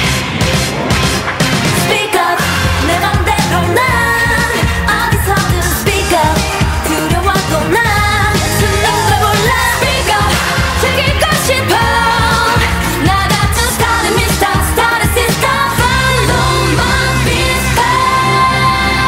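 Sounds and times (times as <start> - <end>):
backing track with steady beat: 0.0 - 19.0
girl group singing dance-pop: 1.7 - 19.0.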